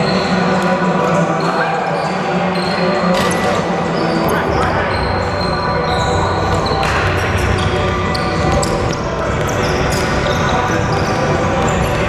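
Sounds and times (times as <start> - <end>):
shoe squeaks: 1.4 - 12.0.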